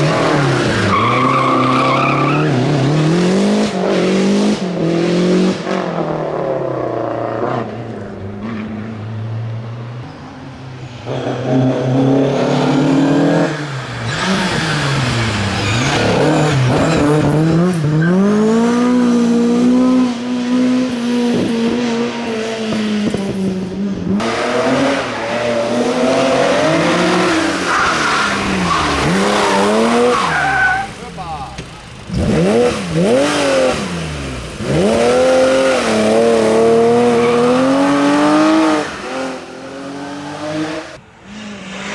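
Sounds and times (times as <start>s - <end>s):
rally car engines at full throttle: 0.0s - 41.9s.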